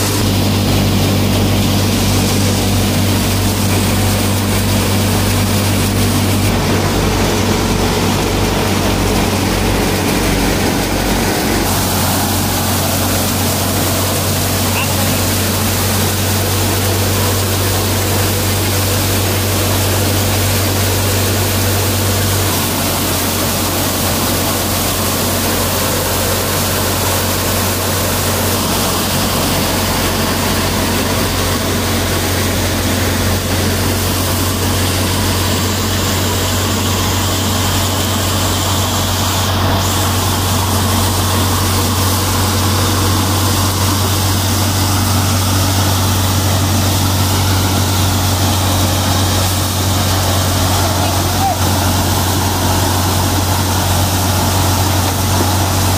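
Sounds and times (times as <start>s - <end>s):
thresher machinery rushing: 0.0s - 55.9s
tractor engine drone: 0.0s - 55.9s.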